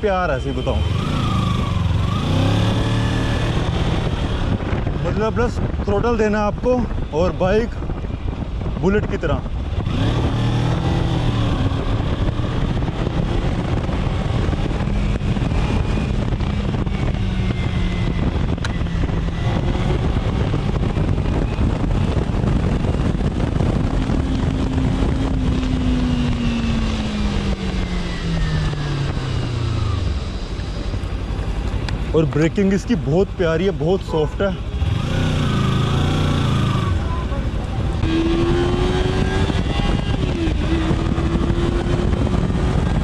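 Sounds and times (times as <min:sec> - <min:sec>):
motorcycle engine running: 0:00.0 - 0:07.2, 0:09.4 - 0:43.0
wind noise on microphone: 0:00.0 - 0:43.0.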